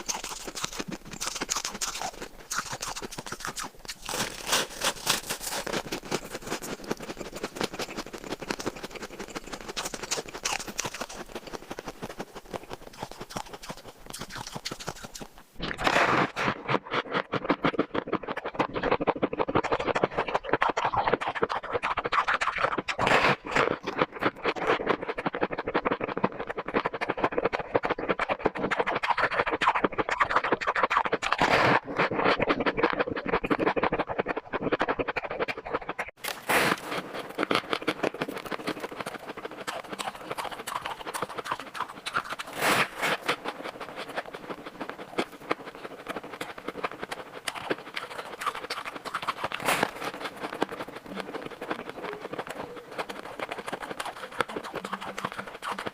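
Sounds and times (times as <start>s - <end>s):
chewing shaved ice: 0.0s - 55.9s.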